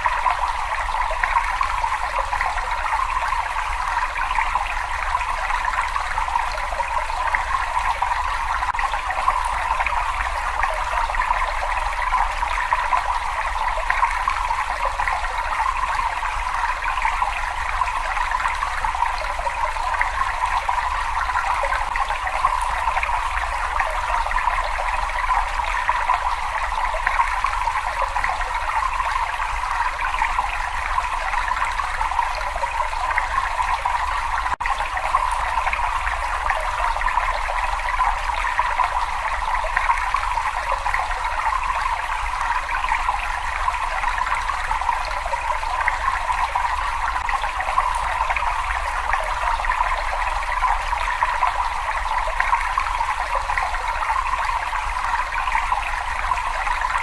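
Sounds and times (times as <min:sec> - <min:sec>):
water trickling in a cave: 0:00.0 - 0:57.0.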